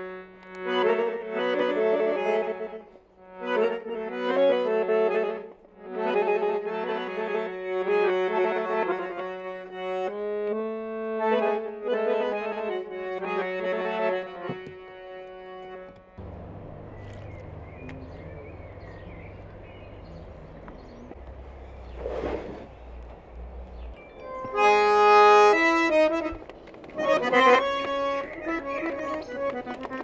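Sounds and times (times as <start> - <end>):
reedy melody: 0.0 - 21.8, 22.8 - 30.0.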